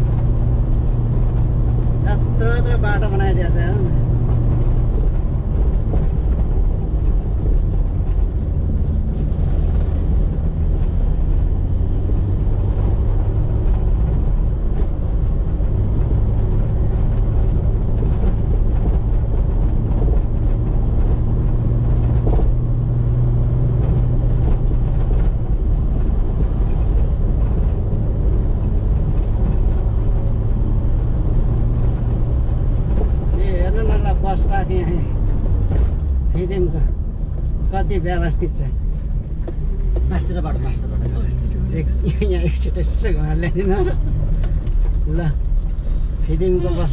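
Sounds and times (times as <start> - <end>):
car engine and tyre drone: 0.0 - 46.9.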